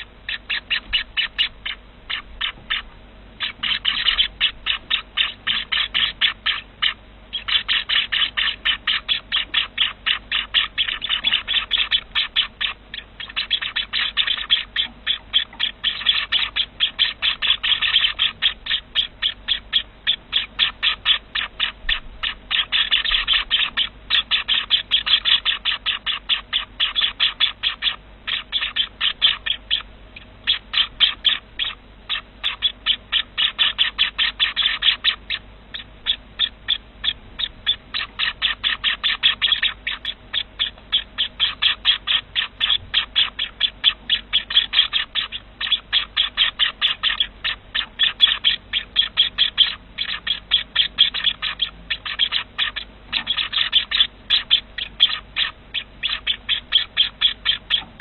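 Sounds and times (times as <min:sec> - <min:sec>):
cage birds chirping: 0:00.0 - 0:58.0.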